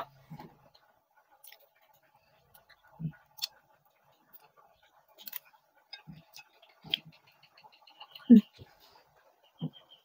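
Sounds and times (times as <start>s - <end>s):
person eating: 0.0s - 8.9s.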